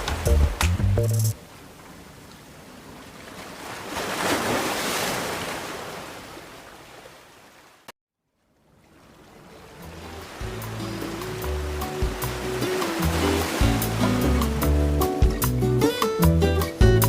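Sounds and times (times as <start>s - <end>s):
ocean surf wash: 1.4s - 7.9s, 8.6s - 16.2s.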